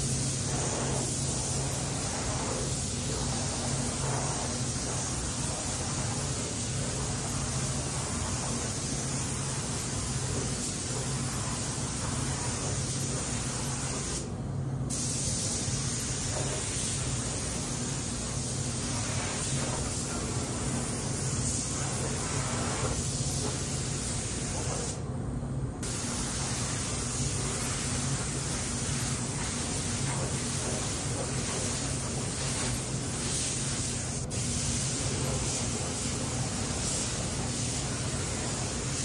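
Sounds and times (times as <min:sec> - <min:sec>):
paint spray gun hissing: 0:00.0 - 0:14.3, 0:14.9 - 0:25.0, 0:25.8 - 0:39.0.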